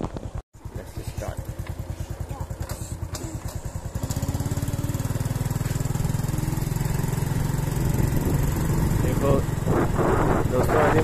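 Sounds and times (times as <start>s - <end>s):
small engine running: 0.6s - 11.0s.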